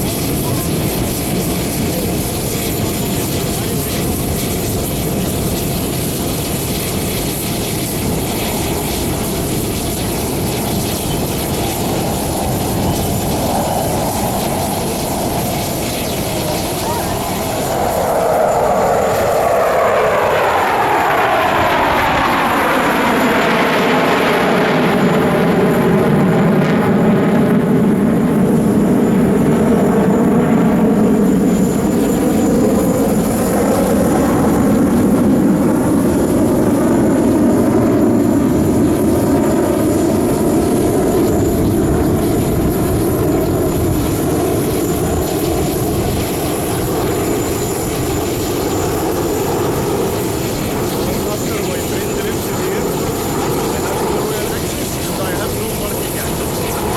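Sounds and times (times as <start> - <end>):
jet fighters passing: 0.0 - 56.9.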